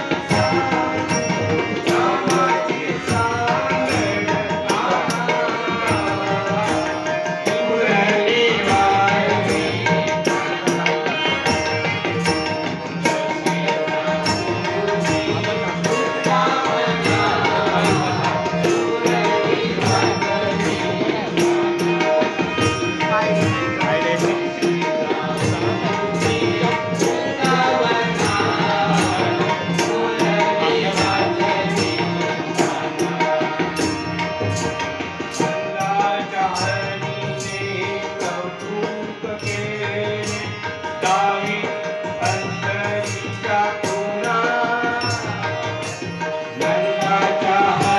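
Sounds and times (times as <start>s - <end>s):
tabla drumming: 0.0s - 47.9s.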